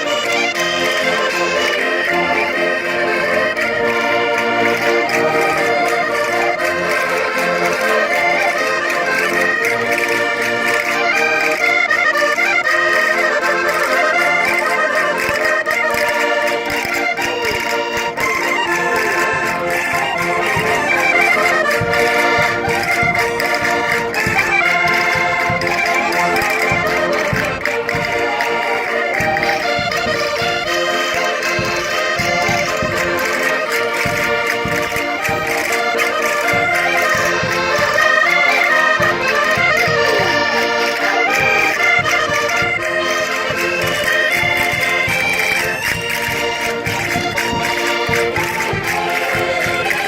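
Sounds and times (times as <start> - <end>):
button accordions playing folk dance: 0.0 - 50.0.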